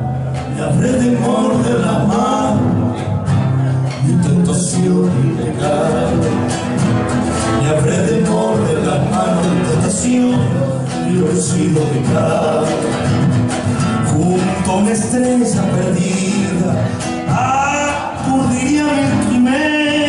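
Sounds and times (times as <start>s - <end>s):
acoustic guitar: 0.0s - 20.0s
person singing folk song: 0.0s - 20.0s.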